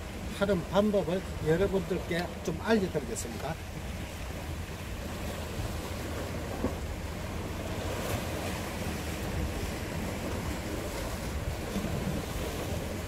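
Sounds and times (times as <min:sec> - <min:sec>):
surf washing against rocks: 0:00.0 - 0:13.0
wind rumbling on microphone: 0:00.0 - 0:13.0.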